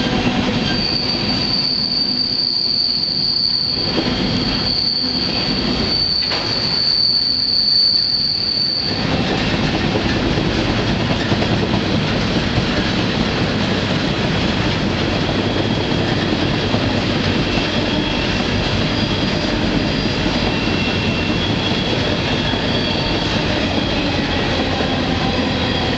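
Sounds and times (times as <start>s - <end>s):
wheel squeal on rails: 0.0s - 11.6s, 14.7s - 25.9s
freight train rolling: 0.0s - 25.9s.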